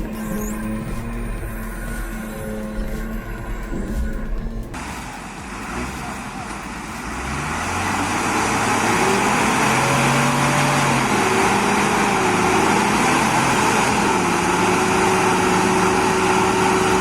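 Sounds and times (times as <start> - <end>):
dense mechanical noise: 0.0 - 17.0
heavy machine engine running: 0.0 - 17.0.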